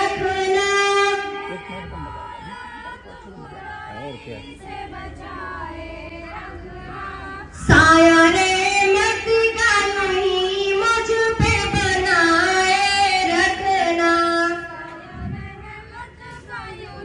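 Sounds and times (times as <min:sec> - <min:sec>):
murmur of voices: 0:00.0 - 0:17.0
women singing over loudspeaker: 0:00.0 - 0:17.0.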